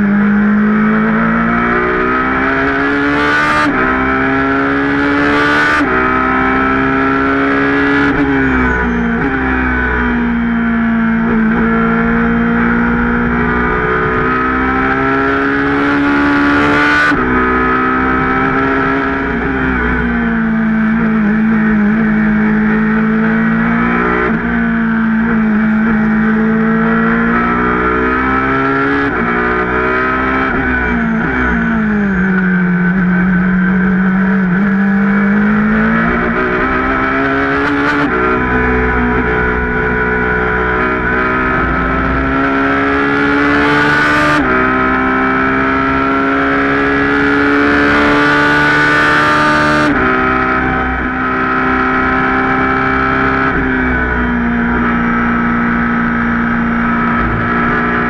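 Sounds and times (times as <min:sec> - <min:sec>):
racing engine accelerating: 0:00.0 - 0:58.0.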